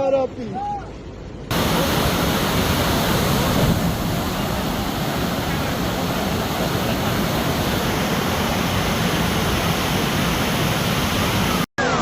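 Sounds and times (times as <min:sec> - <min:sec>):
roar of rushing floodwater: 0:01.5 - 0:11.7.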